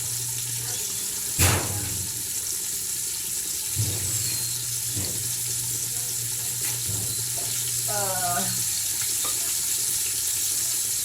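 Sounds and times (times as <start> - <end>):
watery hiss of kitchen work: 0.0 - 11.0.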